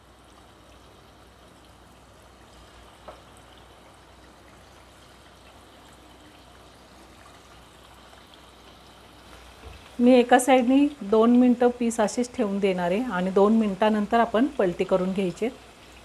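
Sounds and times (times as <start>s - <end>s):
oil sizzling while deep-frying: 0.0s - 16.0s.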